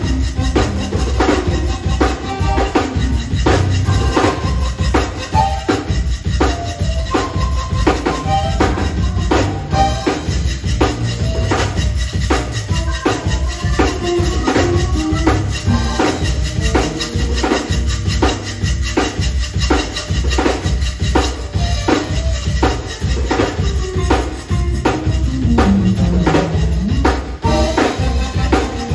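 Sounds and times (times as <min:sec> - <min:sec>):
accordion: 0:00.0 - 0:28.9
drum kit: 0:00.0 - 0:28.9
electric bass: 0:00.0 - 0:28.9
guitar: 0:00.0 - 0:28.9
keyboard: 0:00.0 - 0:28.9.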